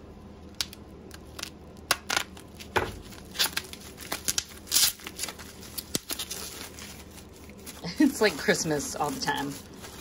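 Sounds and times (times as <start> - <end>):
plastic wrap crinkling: 0.4 - 10.0.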